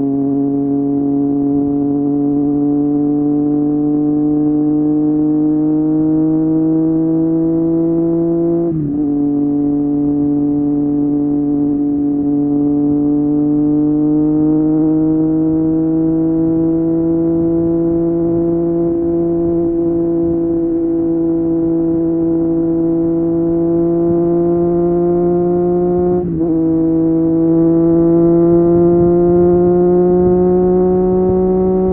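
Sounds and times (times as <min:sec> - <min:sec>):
motorcycle engine riding: 0:00.0 - 0:31.9.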